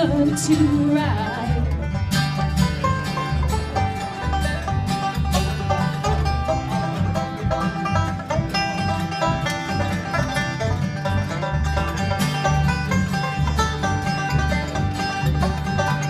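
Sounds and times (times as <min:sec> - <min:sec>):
acoustic guitar strumming: 0:00.0 - 0:16.0
banjo picking: 0:00.0 - 0:16.0
plucked upright bass: 0:00.0 - 0:16.0.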